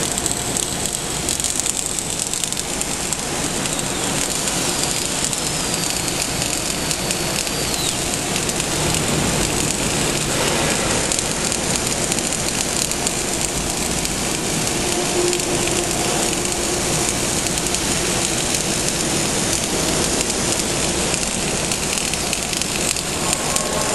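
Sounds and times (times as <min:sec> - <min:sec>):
welding arc crackling and hissing: 0:00.0 - 0:23.9.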